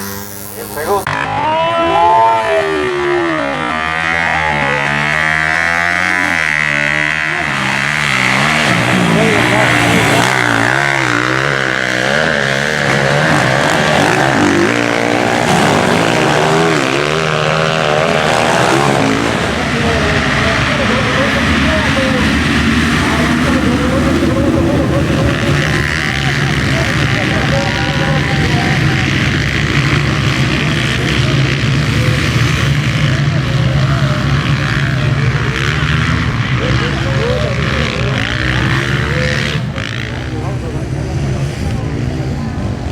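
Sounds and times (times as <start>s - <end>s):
motorbike engines revving: 0.0s - 42.9s.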